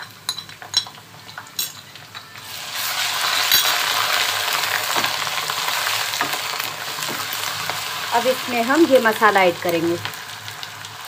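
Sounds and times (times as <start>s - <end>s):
loud steady sizzle: 0.0s - 11.0s.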